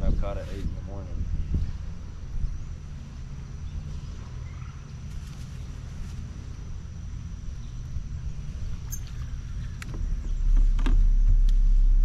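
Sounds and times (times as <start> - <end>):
faint high whine: 0.0 - 12.0
wind and water rumble: 0.0 - 12.0.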